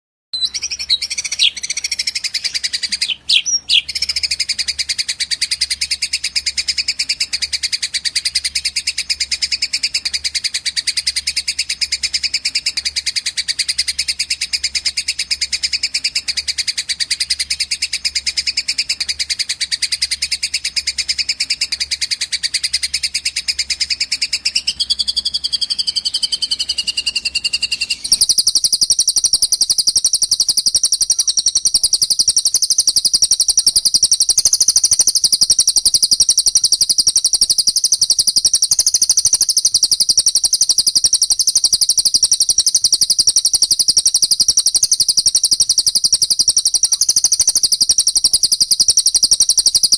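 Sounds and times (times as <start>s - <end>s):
high bird chirping: 0.4s - 49.9s
sparrows chattering: 0.4s - 49.9s.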